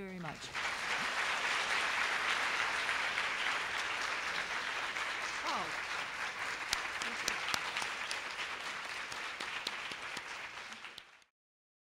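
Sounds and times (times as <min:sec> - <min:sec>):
audience applauding: 0:00.4 - 0:11.3.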